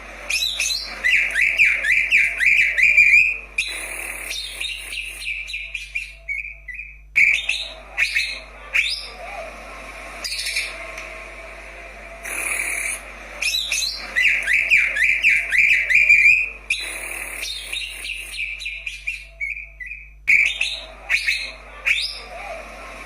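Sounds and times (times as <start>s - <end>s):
bird singing whistled notes: 0.3s - 9.1s, 12.4s - 22.2s.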